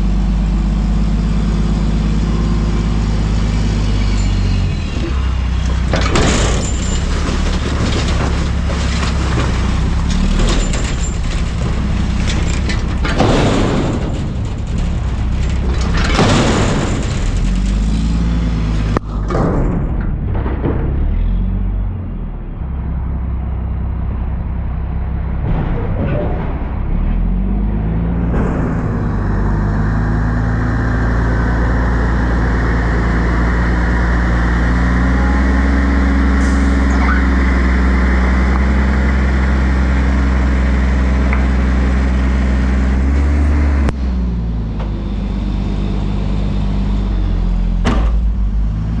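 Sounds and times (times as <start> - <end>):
diesel engine revving: 0.0 - 49.0.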